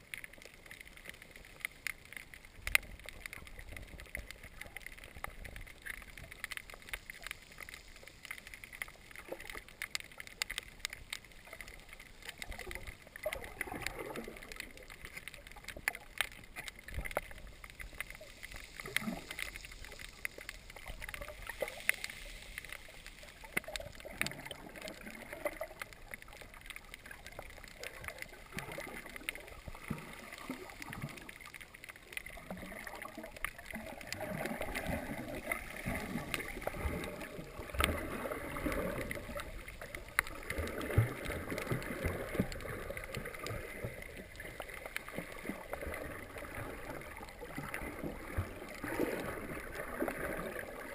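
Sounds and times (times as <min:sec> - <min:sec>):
faint clicks: 0:00.0 - 0:50.9
muffled underwater sloshing: 0:00.0 - 0:50.9.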